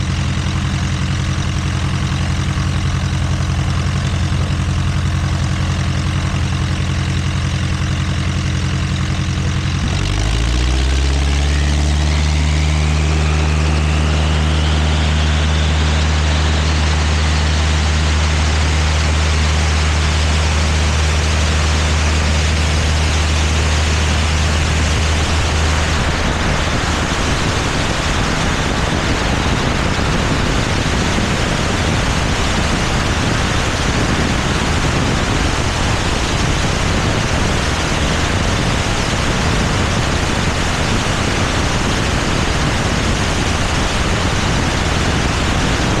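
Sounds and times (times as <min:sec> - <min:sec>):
propeller plane engine hum: 0:00.0 - 0:46.0
wind rushing over microphone: 0:08.6 - 0:46.0.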